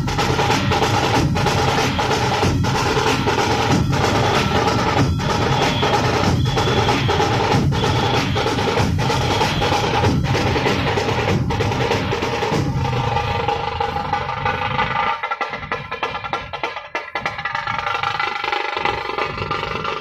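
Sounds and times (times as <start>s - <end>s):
barrel drums beaten together: 0.0s - 19.6s.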